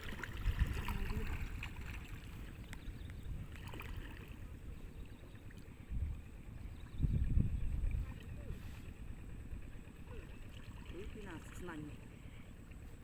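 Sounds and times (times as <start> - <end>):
low steady rumbling: 0.0 - 13.0.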